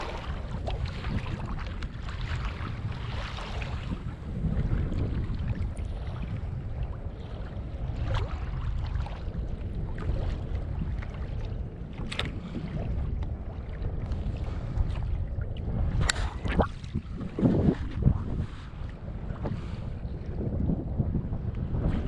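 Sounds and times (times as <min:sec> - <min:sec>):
water slapping kayak hull: 0:00.0 - 0:22.0
wind buffeting microphone: 0:00.0 - 0:22.0.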